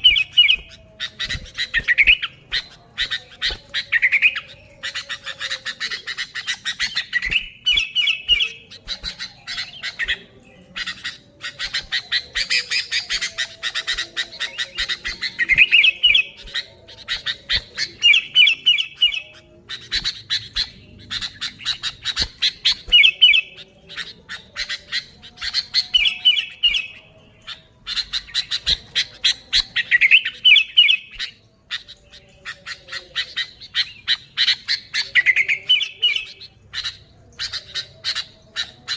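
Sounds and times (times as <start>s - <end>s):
birds chattering harshly: 0.0s - 38.9s
bubbly whistled bird phrases: 0.0s - 38.9s.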